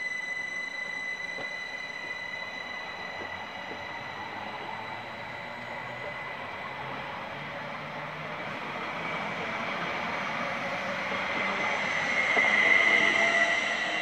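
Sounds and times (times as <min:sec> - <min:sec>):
high electric whine: 0:00.0 - 0:14.0
train wheels rushing on rails: 0:00.0 - 0:14.0.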